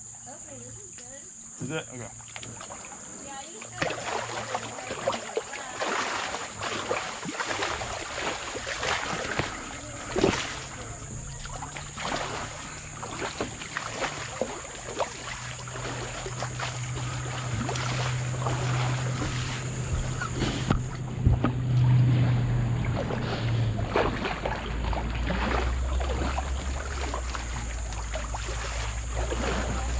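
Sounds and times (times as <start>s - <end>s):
steady low hum: 0.0s - 29.9s
paddle dips and splashes: 2.0s - 29.9s.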